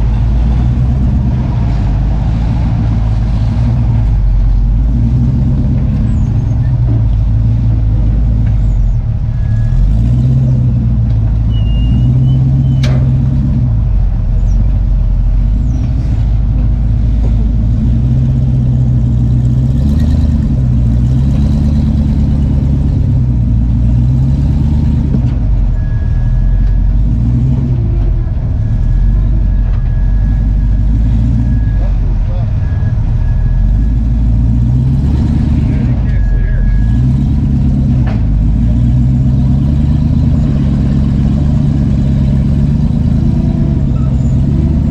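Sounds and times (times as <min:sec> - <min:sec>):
engine revving under load: 0:00.0 - 0:44.9.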